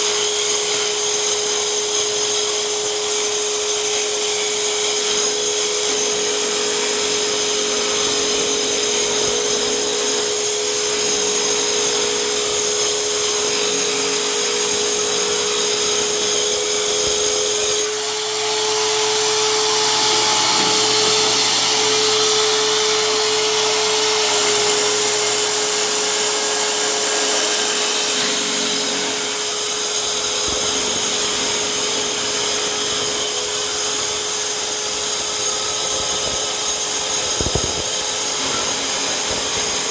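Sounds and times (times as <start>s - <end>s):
circular saw motor whining: 0.0s - 39.9s.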